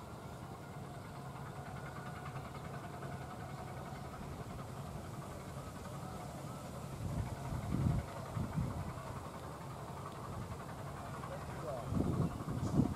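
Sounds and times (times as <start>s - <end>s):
diesel locomotive engine running: 0.0s - 12.9s.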